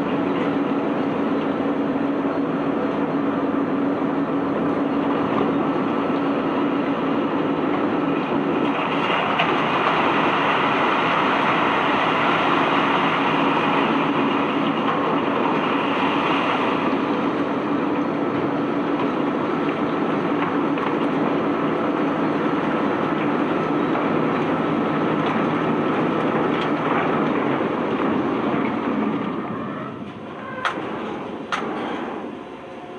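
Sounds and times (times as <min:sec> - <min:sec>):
machinery hum: 0:00.0 - 0:32.9.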